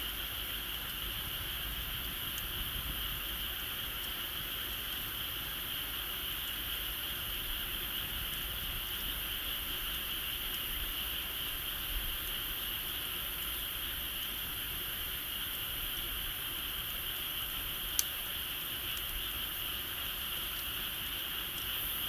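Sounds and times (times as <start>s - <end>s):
insects chorus: 0.0s - 22.0s
bonfire crackling: 0.2s - 22.0s.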